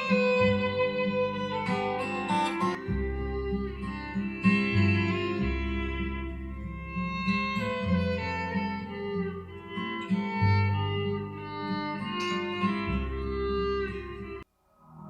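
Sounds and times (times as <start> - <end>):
bowed strings: 0.0 - 15.0
held bass notes: 0.0 - 15.0
plucked acoustic guitar: 0.0 - 15.0.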